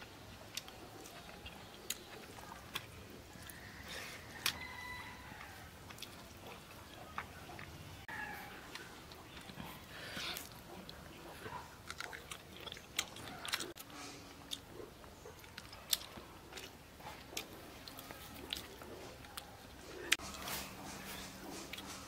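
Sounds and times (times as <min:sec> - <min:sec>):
person chewing wetly: 0:00.0 - 0:22.0.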